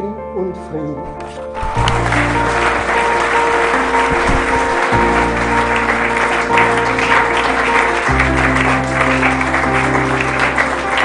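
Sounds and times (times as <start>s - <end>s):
crowd applauding: 1.6s - 11.0s.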